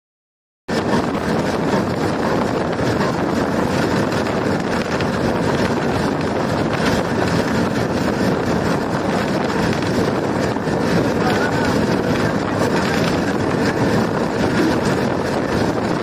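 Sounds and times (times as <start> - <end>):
diesel locomotive rumbling: 0.7 - 16.0
wind rushing over microphone: 0.7 - 16.0.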